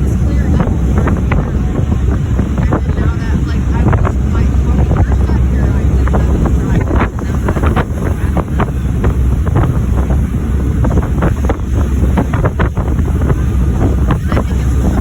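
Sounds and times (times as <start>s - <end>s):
moving boat rumble: 0.0s - 15.0s
wind buffeting microphone: 0.0s - 15.0s.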